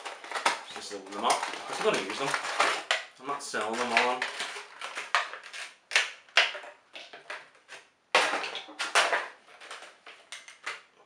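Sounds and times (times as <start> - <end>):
plastic packaging crackling: 0.0 - 10.9.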